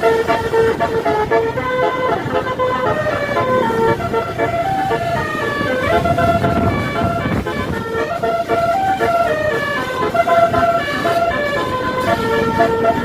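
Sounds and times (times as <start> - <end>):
engine and road rumble: 0.0 - 13.0
multi-tone bus horn melody: 0.0 - 13.0.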